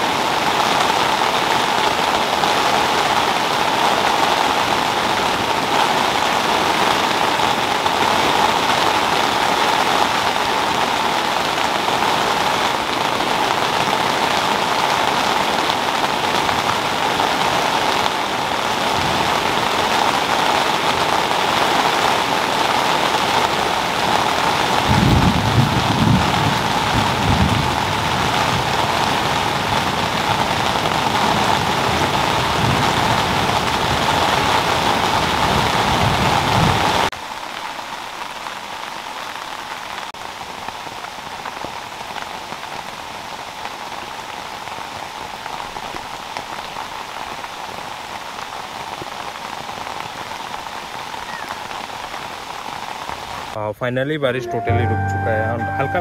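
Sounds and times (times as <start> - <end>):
rain falling: 0.0 - 53.6.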